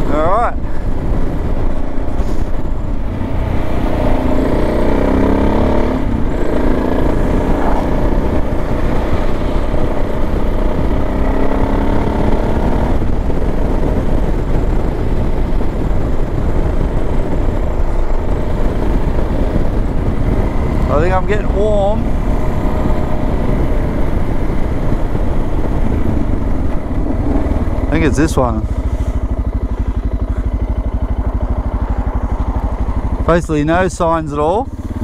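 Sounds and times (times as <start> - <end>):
motorcycle engine running: 0.0 - 35.0
steady low rush: 0.0 - 35.0.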